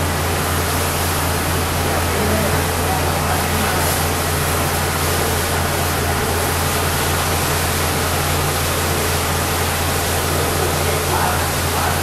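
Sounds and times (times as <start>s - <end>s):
fire hose spraying water: 0.0s - 12.0s.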